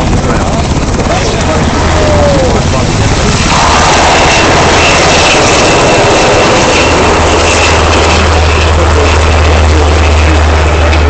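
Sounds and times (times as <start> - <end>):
aircraft engine noise: 0.0 - 11.0
low drone: 0.0 - 11.0.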